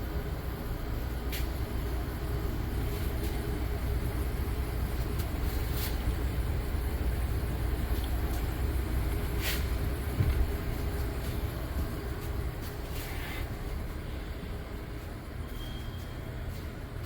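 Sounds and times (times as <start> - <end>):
dehumidifiers humming: 0.0 - 17.0.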